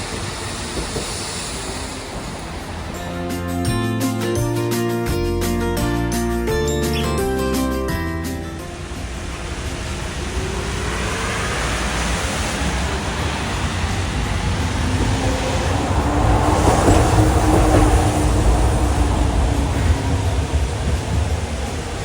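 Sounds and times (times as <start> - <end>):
streetcar on wet track: 0.0 - 22.0.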